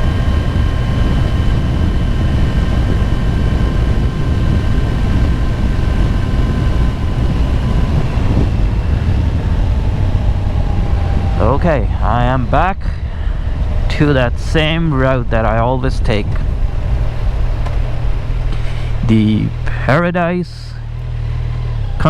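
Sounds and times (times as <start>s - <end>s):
wind noise: 0.0s - 20.0s
motorcycle engine cruising: 0.0s - 22.0s
thin steady whine: 0.0s - 22.0s.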